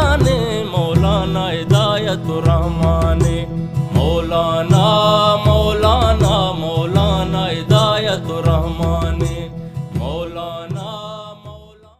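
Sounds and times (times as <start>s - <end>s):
low drum beat: 0.0s - 11.0s
ornamented folk melody: 0.0s - 11.9s.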